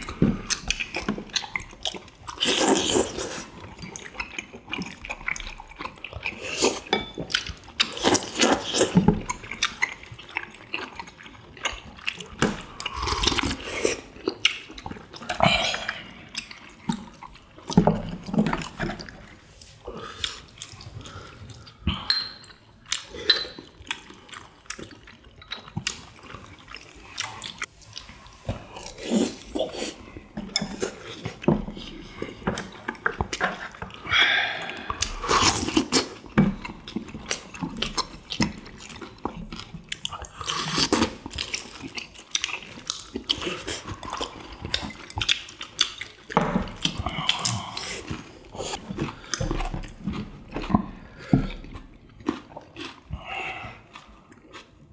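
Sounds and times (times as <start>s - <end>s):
chewing and mouth noises: 0.0s - 54.9s
slurping: 0.1s - 22.1s, 22.9s - 54.7s.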